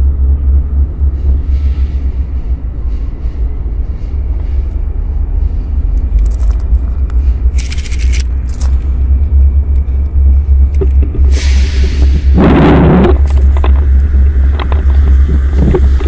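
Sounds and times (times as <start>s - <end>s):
diesel locomotives rumbling: 0.0s - 16.0s.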